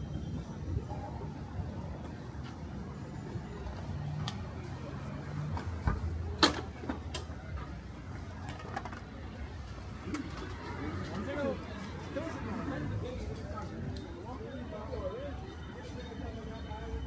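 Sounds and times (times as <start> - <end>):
road vehicles passing: 0.0 - 17.0.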